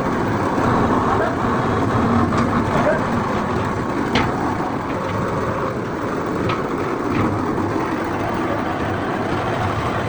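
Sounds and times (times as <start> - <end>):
workshop machinery noise: 0.0 - 10.0.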